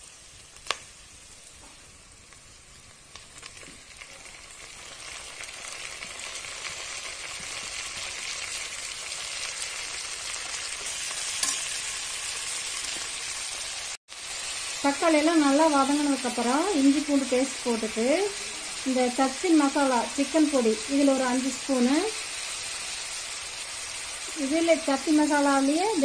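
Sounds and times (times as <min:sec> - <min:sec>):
onions and tomatoes sizzling: 0:00.0 - 0:26.0.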